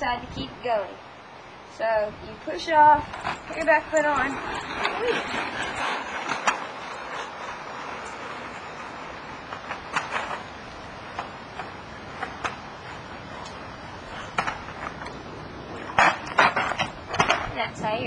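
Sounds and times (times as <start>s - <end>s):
wheels rolling on concrete: 0.0s - 18.0s.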